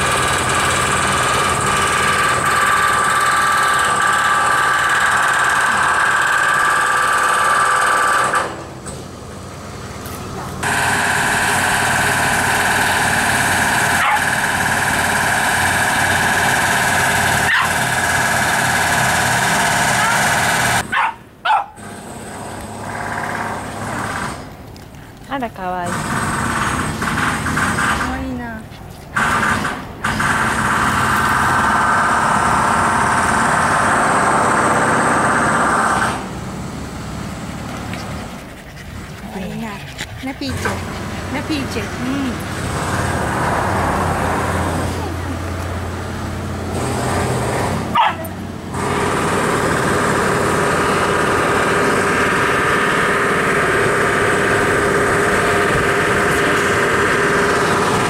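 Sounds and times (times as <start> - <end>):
loud engine running: 0.0 - 21.0, 21.8 - 58.0.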